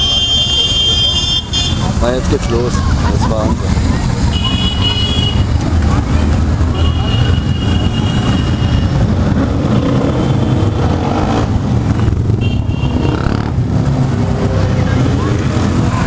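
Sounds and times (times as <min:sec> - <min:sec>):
motorcycle engines rumbling: 0:00.0 - 0:16.0.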